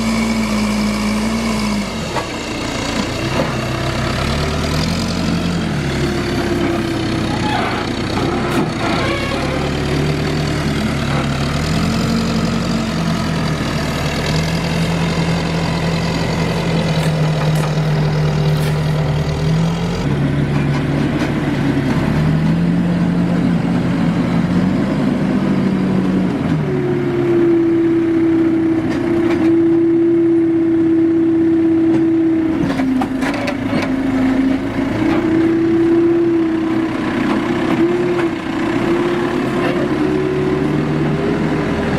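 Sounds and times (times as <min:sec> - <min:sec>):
plate compactor engine: 0:00.0 - 0:41.9
tractor engine: 0:00.0 - 0:41.9.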